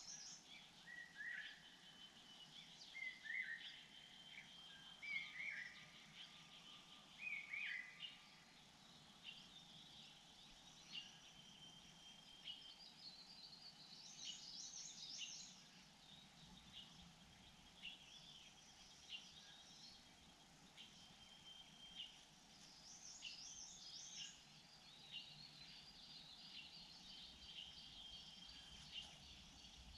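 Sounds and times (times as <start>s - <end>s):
bird chirps and calls: 0.0s - 29.9s
quiet outdoor ambience: 0.0s - 29.9s.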